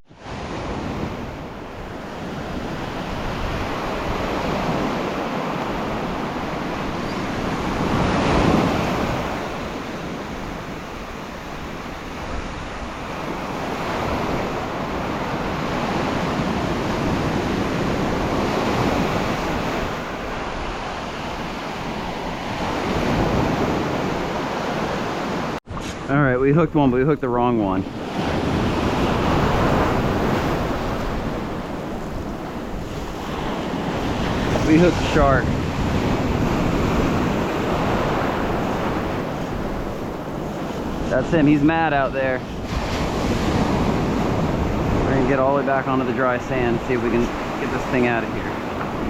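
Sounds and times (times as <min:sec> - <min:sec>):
wind on microphone: 0:00.1 - 0:26.1, 0:27.9 - 0:49.0
ocean surf washing onto beach: 0:00.1 - 0:49.0.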